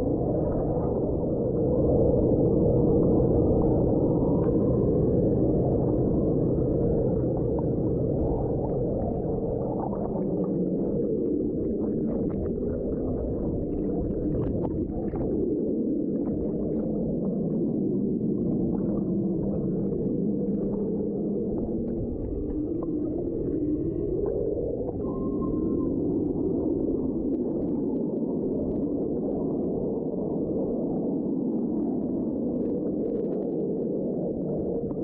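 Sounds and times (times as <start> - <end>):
muffled underwater water rushing: 0.0 - 35.0.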